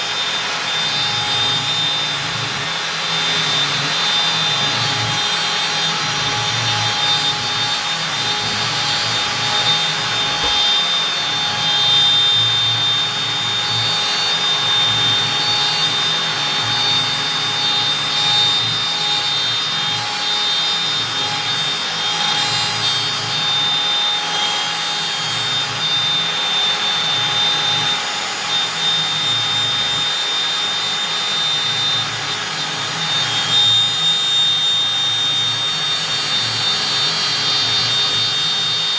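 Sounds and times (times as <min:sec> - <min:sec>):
router spindle milling wood: 0:00.0 - 0:38.9.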